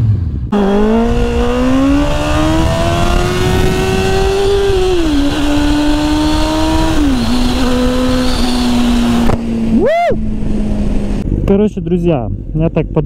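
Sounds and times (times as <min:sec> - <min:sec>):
motorcycle engine accelerating: 0:00.0 - 0:11.6
wind and road noise: 0:00.0 - 0:13.0.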